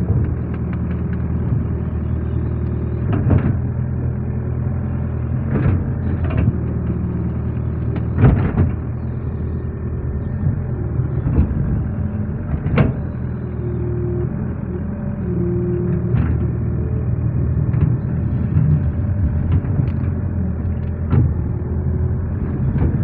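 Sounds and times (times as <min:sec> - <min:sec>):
excavator arm and bucket clunks: 0:00.0 - 0:04.0, 0:05.2 - 0:23.0
excavator diesel engine running: 0:00.0 - 0:23.0.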